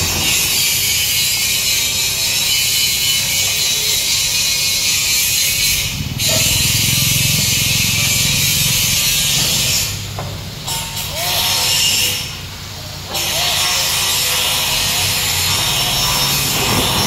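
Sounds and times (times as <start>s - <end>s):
diesel truck engine rumbling: 0.0s - 4.3s, 5.0s - 17.0s.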